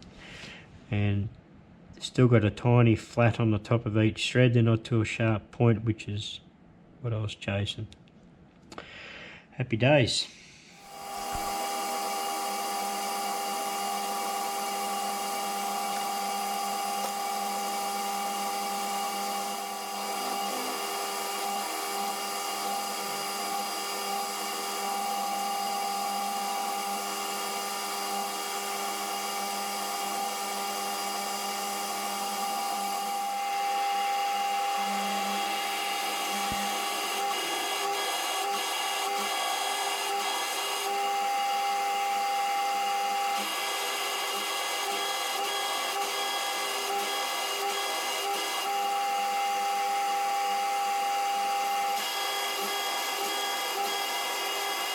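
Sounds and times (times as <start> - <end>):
metal lathe motor whine: 10.8 - 54.9.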